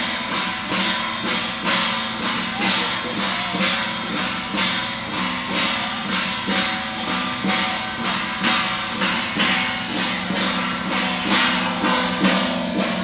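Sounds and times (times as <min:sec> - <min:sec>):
cymbals clashing: 0:00.0 - 0:13.0
drums beating: 0:00.0 - 0:13.0
gongs ringing: 0:00.0 - 0:13.0.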